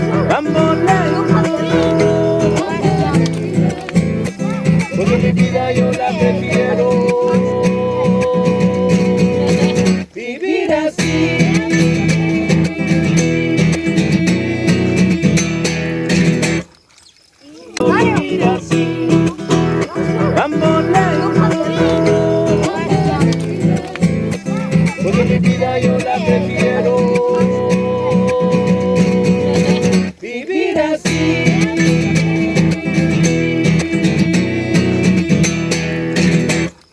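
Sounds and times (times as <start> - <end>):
strummed acoustic guitar music: 0.0 - 16.8, 17.8 - 36.9.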